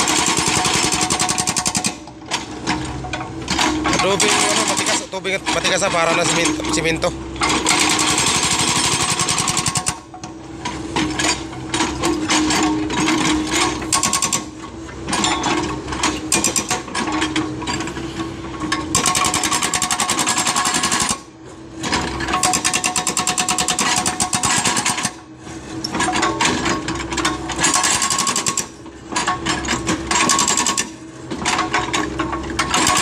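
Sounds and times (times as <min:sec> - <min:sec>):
excavator engine running: 0:00.0 - 0:33.0
hydraulic breaker hammering rock: 0:00.0 - 0:33.0.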